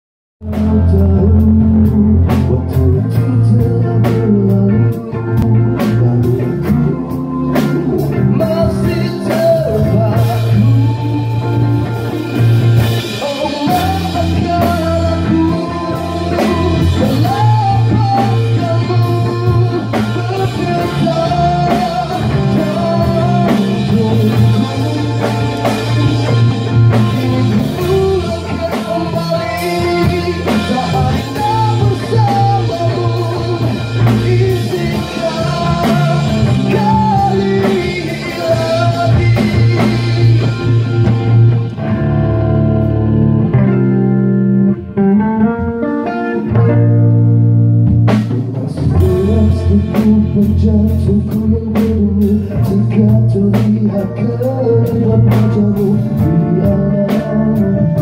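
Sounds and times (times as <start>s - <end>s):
man singing: 0.4s - 41.7s, 48.1s - 58.0s
rock band playing: 0.4s - 58.0s.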